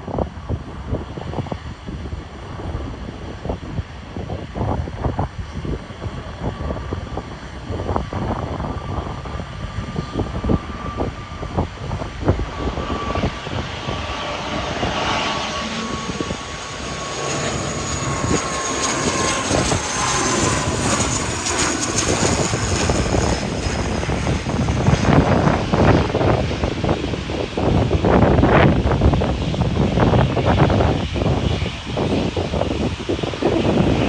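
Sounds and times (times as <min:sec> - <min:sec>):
turboprop airliner drone: 0:00.0 - 0:34.0
wind buffeting microphone: 0:00.0 - 0:34.0.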